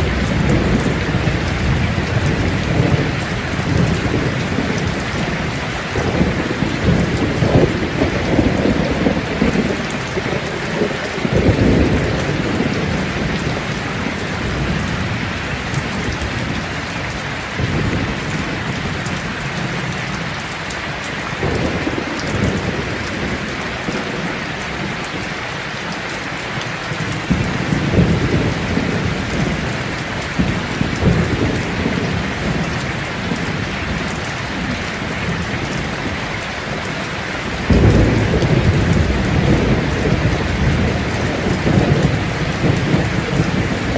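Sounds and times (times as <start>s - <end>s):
thunder rolling: 0.0s - 19.9s, 21.4s - 25.0s, 27.0s - 43.9s
rain pattering: 0.0s - 43.9s.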